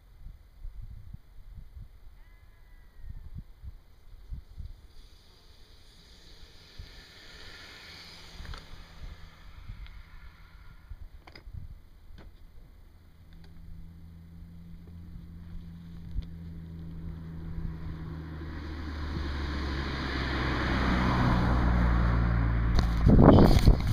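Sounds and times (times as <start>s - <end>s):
car approaching: 4.7s - 23.9s.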